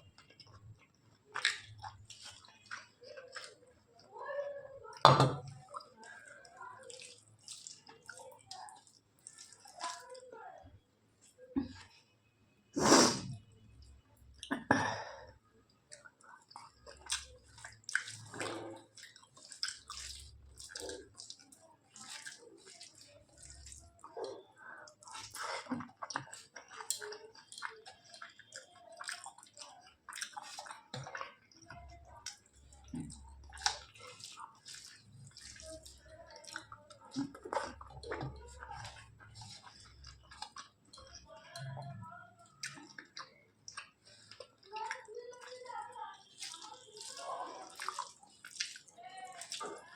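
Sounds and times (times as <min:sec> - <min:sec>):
wet chewing and lip smacks: 0:00.0 - 0:04.0, 0:04.9 - 0:10.2, 0:15.7 - 0:49.9.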